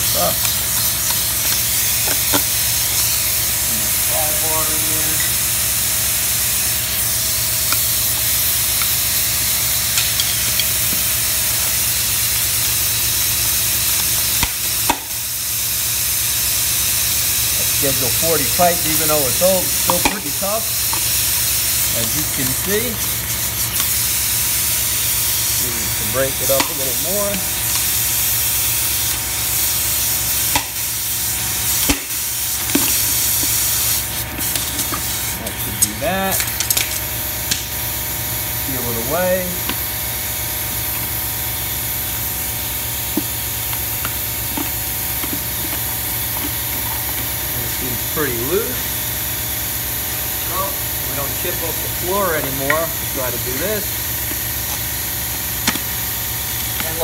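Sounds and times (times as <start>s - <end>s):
air hammer running: 0.0s - 57.0s.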